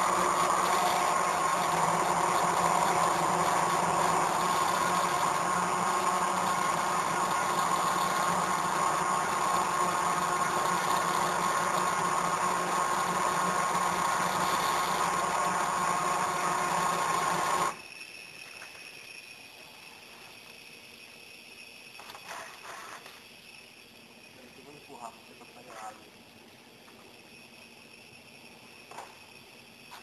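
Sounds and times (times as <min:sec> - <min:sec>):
stepper motors whining: 0:00.0 - 0:30.0.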